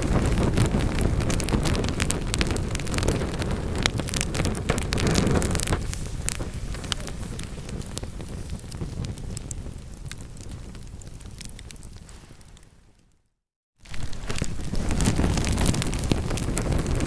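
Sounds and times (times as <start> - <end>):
fire roaring: 0.0 - 12.8, 13.8 - 17.0
logs popping and crackling: 0.0 - 13.1, 13.8 - 17.0.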